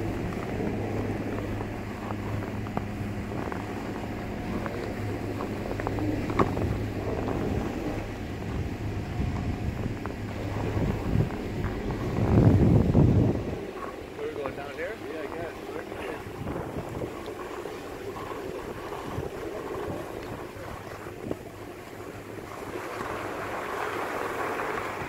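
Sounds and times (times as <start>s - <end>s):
low mechanical hum: 0.0s - 25.0s
wind on microphone: 0.0s - 25.0s.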